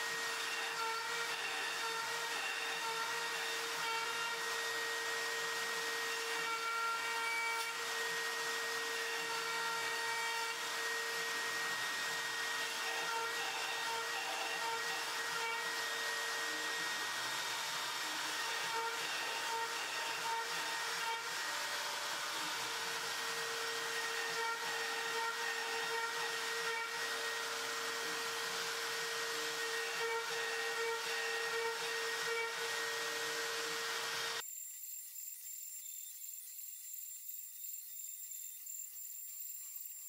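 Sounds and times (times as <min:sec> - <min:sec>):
router whining at high speed: 0:00.0 - 0:34.4.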